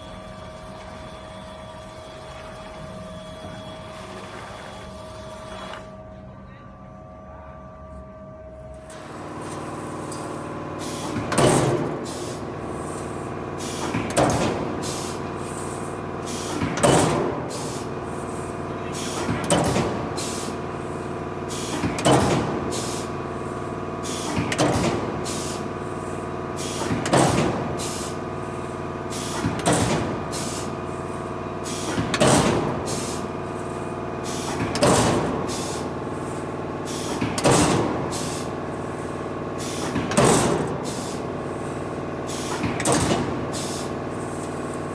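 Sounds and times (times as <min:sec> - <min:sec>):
machine hum: 0:08.8 - 0:44.9
punch press whine and clatter: 0:08.8 - 0:44.9.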